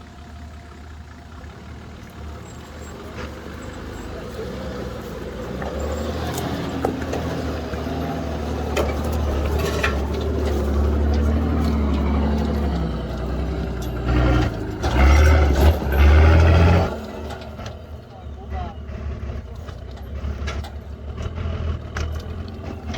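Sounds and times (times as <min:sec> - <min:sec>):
engine pulling under load: 0:00.0 - 0:22.9.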